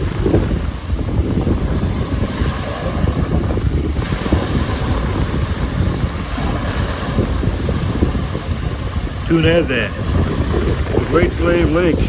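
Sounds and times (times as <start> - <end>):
waves washing onto shore: 0.0 - 12.0
wind buffeting microphone: 0.0 - 12.0.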